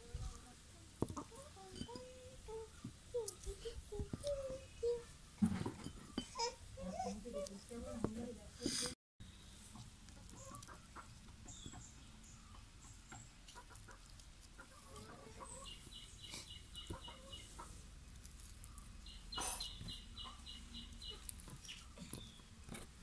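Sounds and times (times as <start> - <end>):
chickens clucking faintly: 0.0 - 23.0.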